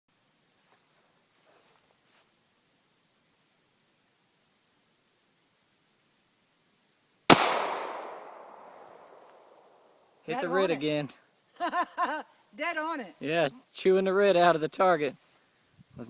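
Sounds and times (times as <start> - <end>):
insect chirping: 0.1 - 16.0.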